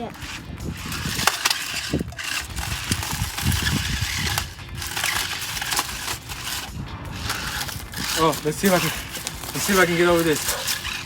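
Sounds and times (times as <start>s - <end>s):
toy car body clattering: 0.0s - 11.0s
toy car wheels scrabbling: 0.0s - 11.0s.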